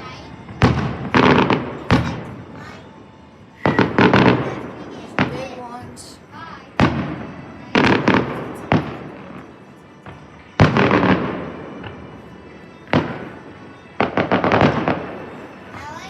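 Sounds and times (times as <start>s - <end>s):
fireworks bangs: 0.0s - 3.0s, 3.6s - 6.2s, 6.8s - 16.0s.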